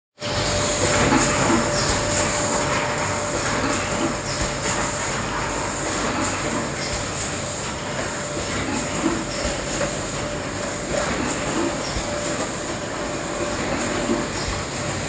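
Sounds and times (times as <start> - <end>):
machinery hum and air rush: 0.2 - 15.0.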